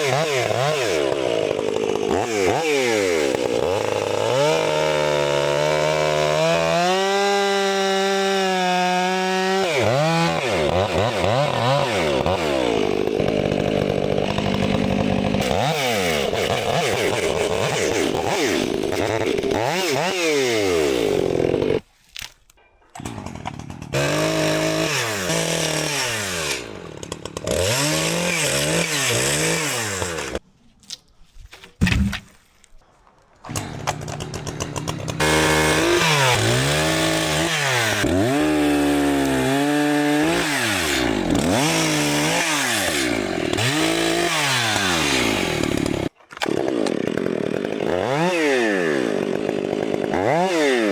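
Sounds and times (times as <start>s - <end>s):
chainsaw cutting logs: 0.0s - 21.9s, 22.9s - 30.4s, 33.4s - 50.9s.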